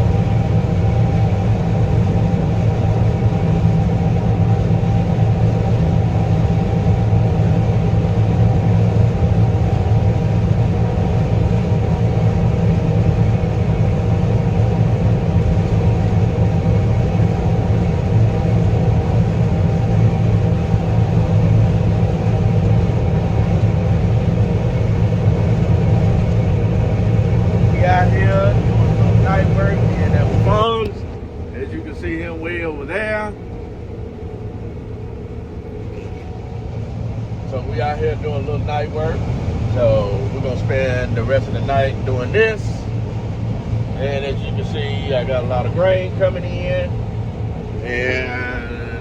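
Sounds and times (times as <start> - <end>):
combine harvester engine drone: 0.0 - 49.0
thin steady whine: 0.0 - 49.0.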